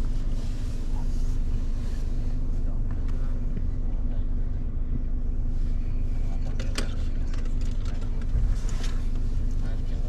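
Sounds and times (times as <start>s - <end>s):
car road and engine rumble: 0.0s - 10.0s
faint constant hum: 0.0s - 10.0s.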